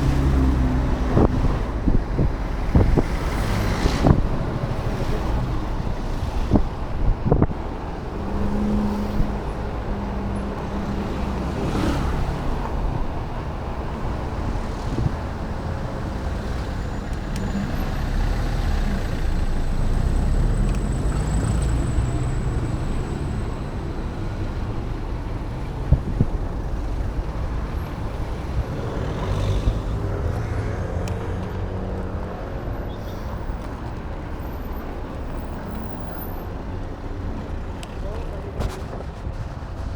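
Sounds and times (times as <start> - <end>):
wind rumbling on microphone: 0.0 - 36.0, 36.6 - 39.9
e-bike road noise: 0.0 - 39.9.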